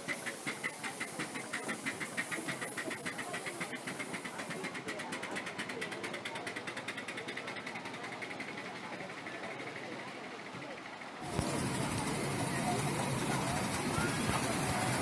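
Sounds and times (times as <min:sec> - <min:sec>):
steam exhaust beats: 0:00.0 - 0:10.2, 0:11.2 - 0:15.0
wheels clicking over track: 0:00.0 - 0:15.0.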